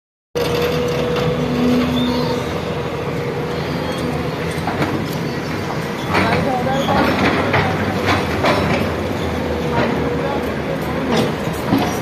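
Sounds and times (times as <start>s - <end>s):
excavator engine rumble: 0.4s - 12.0s.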